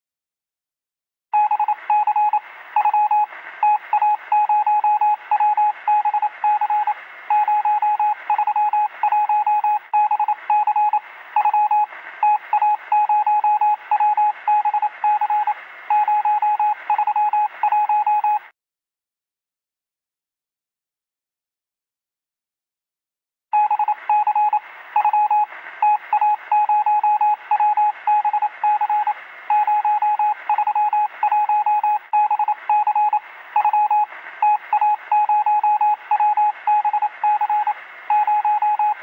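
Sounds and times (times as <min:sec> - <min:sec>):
morse code beeps: 0:01.4 - 0:18.5, 0:23.6 - 0:39.0.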